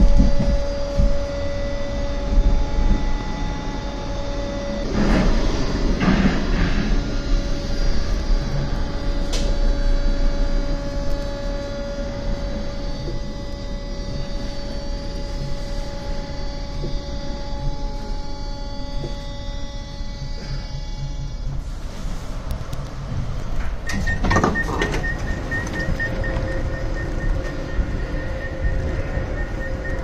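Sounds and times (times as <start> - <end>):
subway train electric whine: 0.0 - 30.0
wheel and rail rumble: 0.0 - 30.0.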